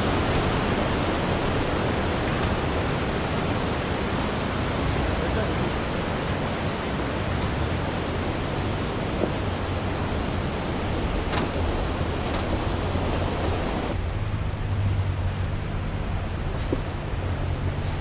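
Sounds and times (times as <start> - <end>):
low engine hum: 0.0 - 18.0
tyre and wind noise: 0.0 - 18.0.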